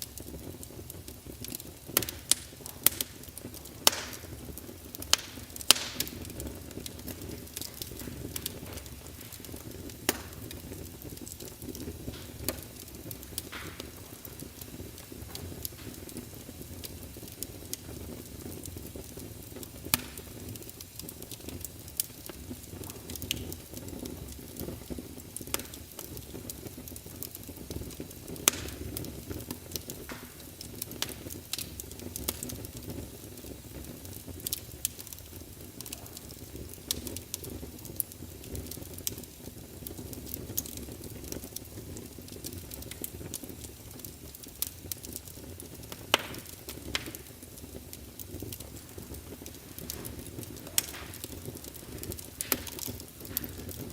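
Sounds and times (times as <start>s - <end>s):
logs crackling and popping: 0.0s - 53.9s
low rumble of flames: 0.0s - 53.9s.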